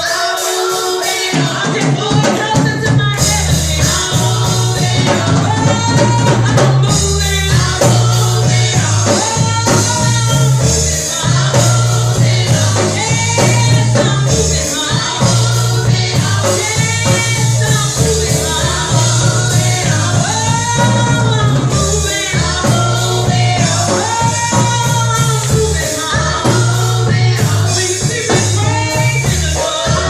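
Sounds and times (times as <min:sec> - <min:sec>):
band playing: 0:00.0 - 0:30.0
group gospel singing: 0:00.0 - 0:30.0
bass line: 0:01.5 - 0:30.0.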